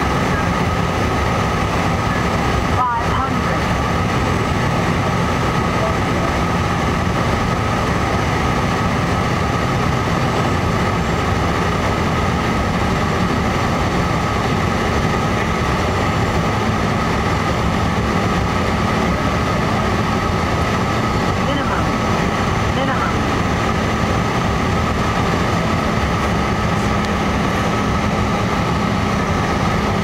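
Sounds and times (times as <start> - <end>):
airflow rush: 0.0 - 30.0
jet engines drone in cabin: 0.0 - 30.0.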